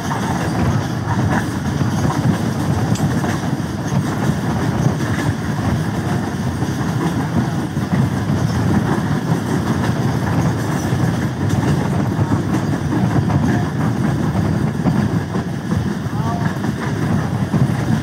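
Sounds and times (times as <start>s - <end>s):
diesel train rumbling: 0.0s - 18.0s.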